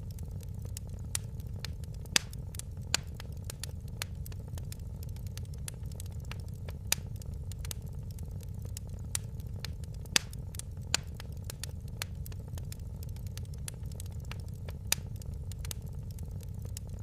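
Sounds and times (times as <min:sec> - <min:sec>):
low rush of flames: 0:00.0 - 0:17.0
wood fire crackling and popping: 0:00.0 - 0:17.0.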